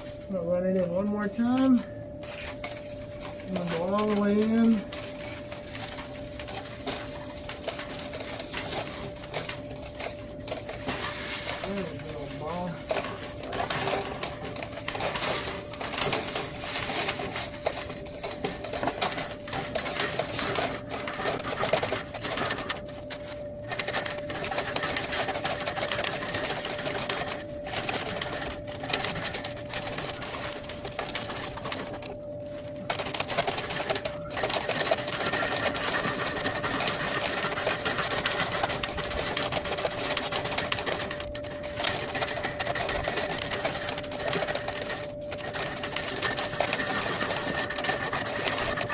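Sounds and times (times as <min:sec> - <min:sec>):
clothes dryer humming: 0:00.0 - 0:48.9
fish tape rattling in duct: 0:02.2 - 0:48.9.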